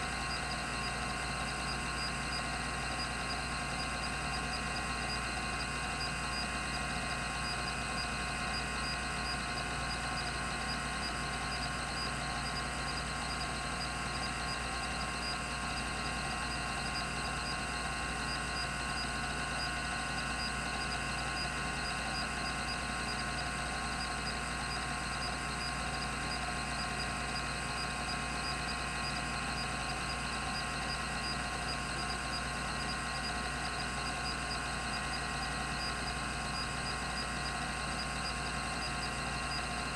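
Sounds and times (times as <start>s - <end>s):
hard drive spindle hum and whine: 0.0s - 39.9s.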